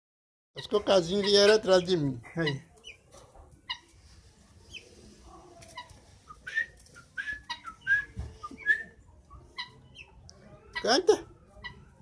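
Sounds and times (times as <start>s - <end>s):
guineafowl keets peeping: 0.6s - 12.0s.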